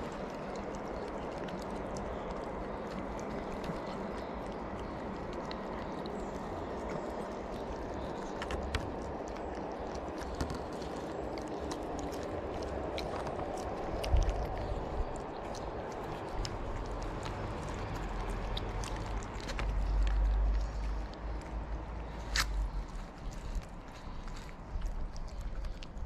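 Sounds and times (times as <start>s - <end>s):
cats chewing and crunching: 0.0s - 26.0s.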